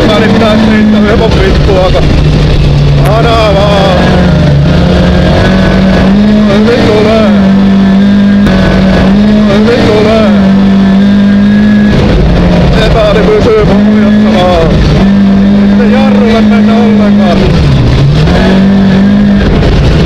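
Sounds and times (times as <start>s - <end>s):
rally car engine revving hard: 0.0s - 20.0s.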